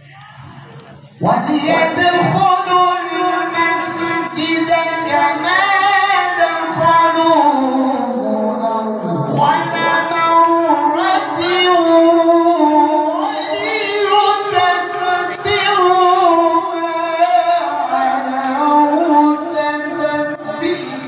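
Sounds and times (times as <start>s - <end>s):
man chanting into a microphone: 1.2s - 21.0s.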